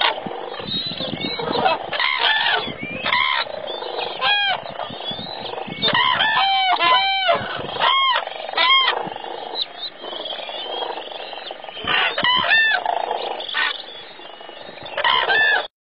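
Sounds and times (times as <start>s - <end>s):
cranes bugling calls: 0.0s - 15.7s
distant cranes chorus: 0.0s - 15.7s.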